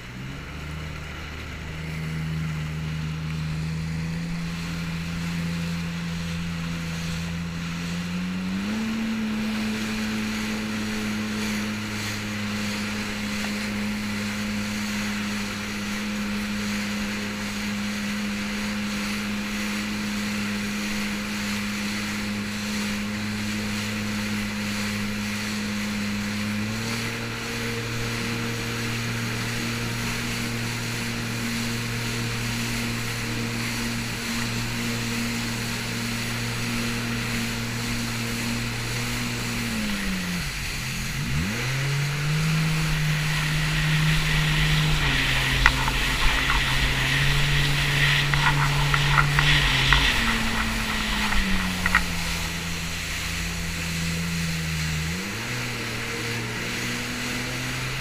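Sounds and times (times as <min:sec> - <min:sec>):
jet ski engine running: 0:00.0 - 0:58.0
rushing wind and water: 0:00.0 - 0:58.0.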